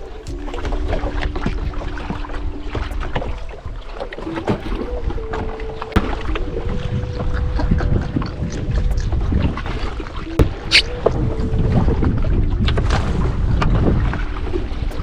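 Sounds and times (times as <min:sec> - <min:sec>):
water rumbling around boat: 0:00.0 - 0:15.0
wind: 0:00.0 - 0:15.0.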